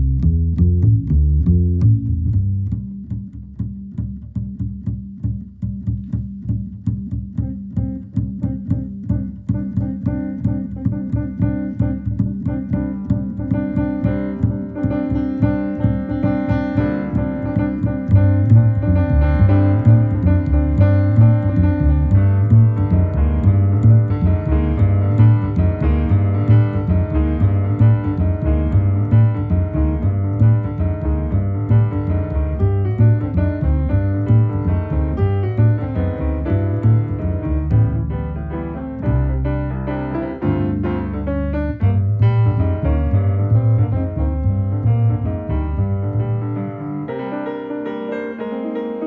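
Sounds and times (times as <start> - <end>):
double bass plucking: 0.0 - 49.0
grand piano playing: 4.6 - 49.0.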